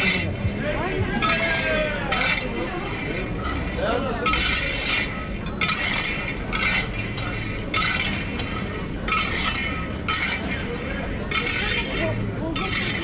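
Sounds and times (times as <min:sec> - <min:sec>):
metal utensils clinking and scraping: 0:00.0 - 0:13.0.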